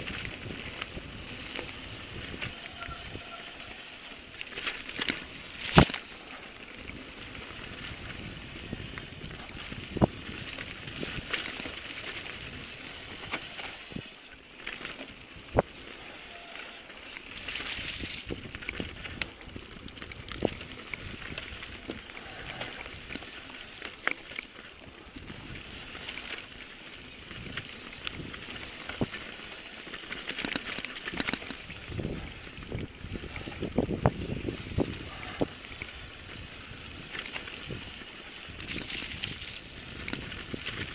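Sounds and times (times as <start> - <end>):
bike knocking and rattling: 0.0 - 16.1, 17.0 - 40.9
bike tyres on dirt and stones: 0.0 - 40.9.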